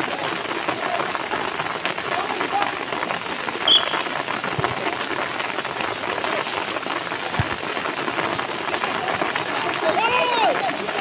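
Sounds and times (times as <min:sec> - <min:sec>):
rain pattering on grass: 0:00.0 - 0:11.0.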